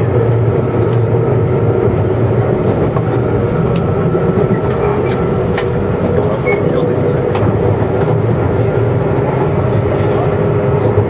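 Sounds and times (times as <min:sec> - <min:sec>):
electric train motor hum: 0:00.0 - 0:11.0.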